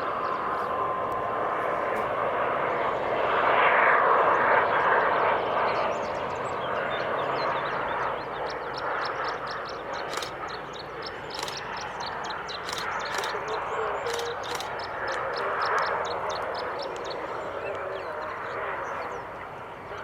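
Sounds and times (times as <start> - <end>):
airliner engines rushing: 0.0 - 20.0.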